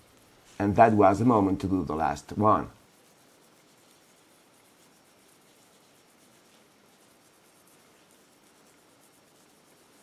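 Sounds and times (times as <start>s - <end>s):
cloth rubbing on metal: 0.0s - 10.0s.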